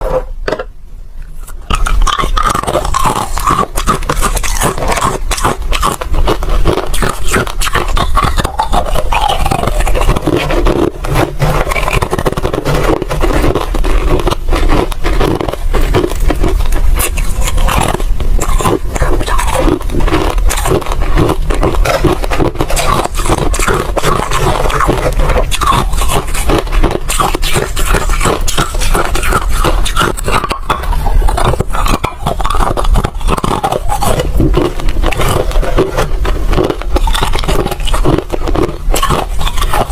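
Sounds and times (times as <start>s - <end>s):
ice crunching being chewed: 1.4s - 39.9s.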